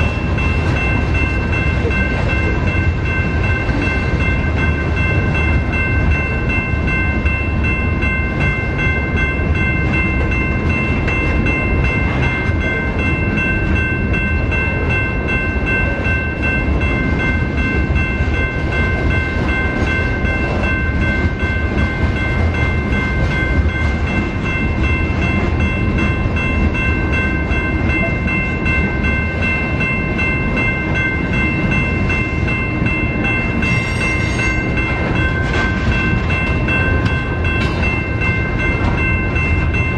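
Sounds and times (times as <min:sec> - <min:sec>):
freight train rumbling on rails: 0:00.0 - 0:39.9
high-pitched ringing tones: 0:00.0 - 0:39.9.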